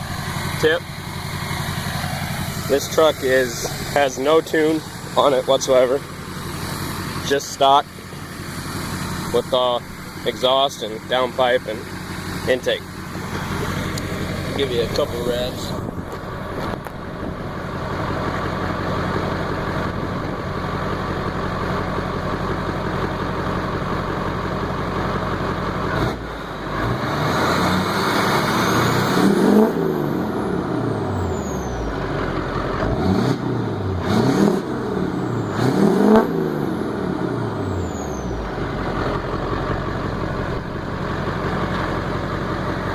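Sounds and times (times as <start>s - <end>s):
diesel engine idling and revving: 0.0s - 42.9s.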